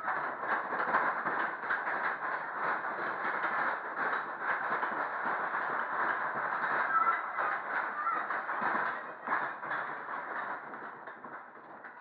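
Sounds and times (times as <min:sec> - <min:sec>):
ride car rattling on track: 0:00.0 - 0:12.0.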